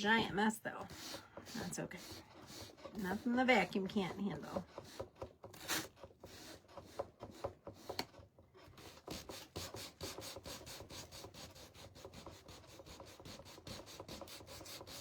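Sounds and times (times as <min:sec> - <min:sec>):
sandpaper rubbing on wood: 0:00.9 - 0:03.8, 0:04.4 - 0:08.1, 0:08.8 - 0:15.0.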